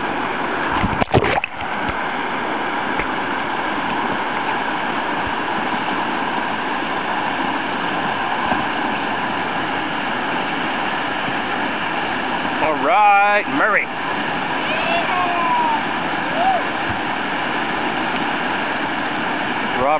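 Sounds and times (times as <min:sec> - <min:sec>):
whitewater roaring: 0:00.0 - 0:19.9.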